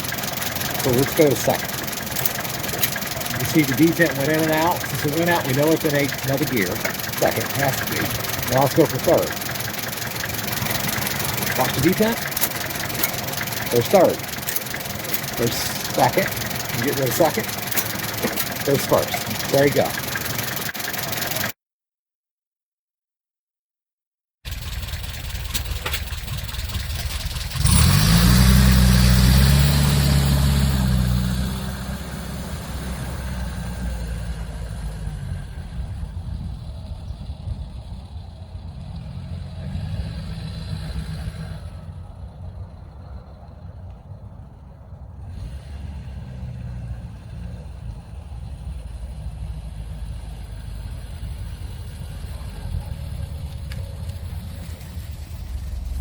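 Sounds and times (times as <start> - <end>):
car engine revving and idling: 0.0 - 21.6, 24.5 - 56.0.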